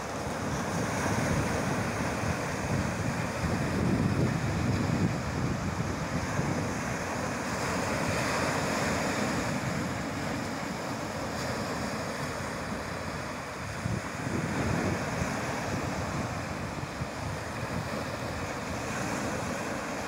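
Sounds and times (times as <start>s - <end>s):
small waves breaking on beach: 0.0s - 20.0s
wind buffeting microphone: 0.1s - 20.0s.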